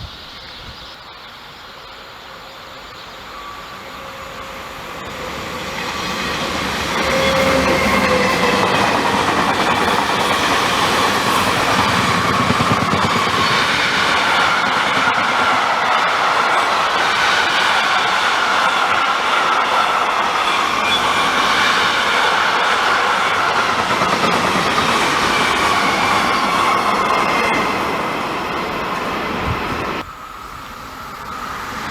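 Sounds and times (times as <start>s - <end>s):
train passing with high whine: 0.0s - 31.9s.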